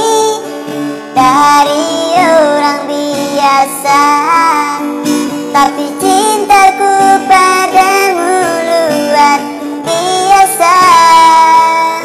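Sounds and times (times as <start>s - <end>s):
man singing in a high funny voice: 0.0s - 0.4s, 1.2s - 4.9s, 5.6s - 12.0s
strummed acoustic guitar: 0.0s - 12.0s.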